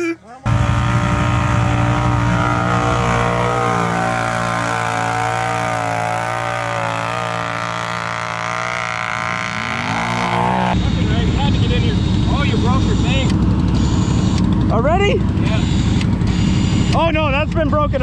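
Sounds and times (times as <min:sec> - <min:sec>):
atv engine running and revving: 0:00.4 - 0:18.0.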